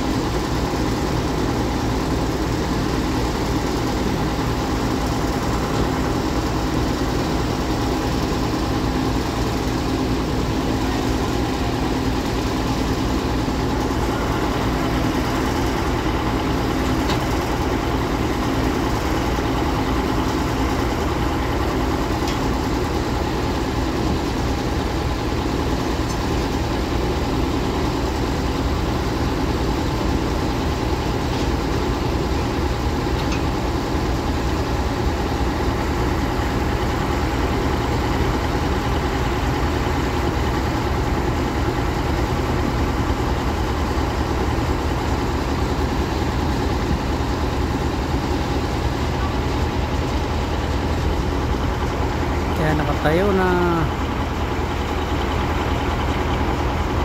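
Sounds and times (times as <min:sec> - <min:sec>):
drilling rig engine running: 0:00.0 - 0:57.0.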